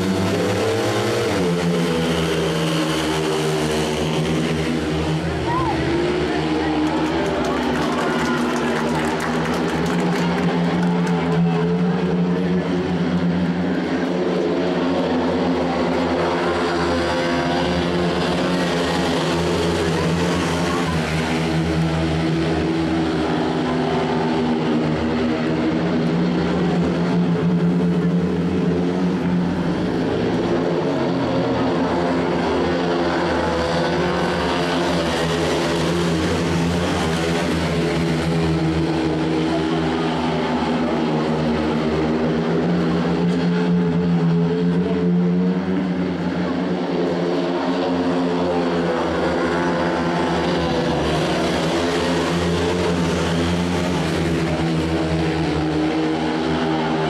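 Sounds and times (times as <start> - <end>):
motorcycle engines droning: 0.0 - 57.0.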